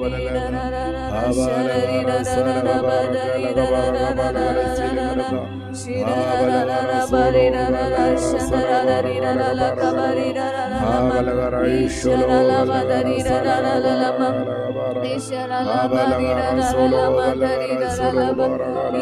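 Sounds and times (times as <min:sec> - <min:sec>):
sustained low notes: 0:00.0 - 0:19.0
voices singing a slow hymn: 0:00.0 - 0:19.0.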